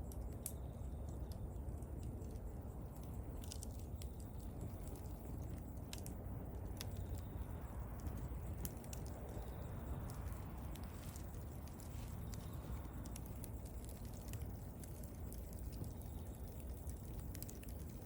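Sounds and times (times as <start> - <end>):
burning wood crackling and popping: 0.0 - 18.0
low rumble of flames: 0.0 - 18.0.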